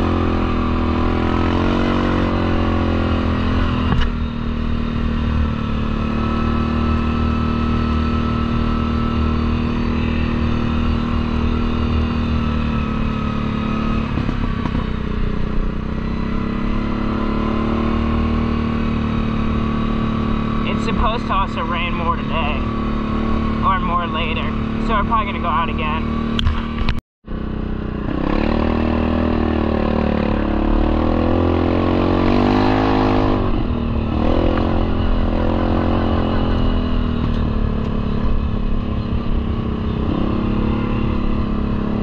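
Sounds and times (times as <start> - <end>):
atv engine running: 0.0 - 42.0.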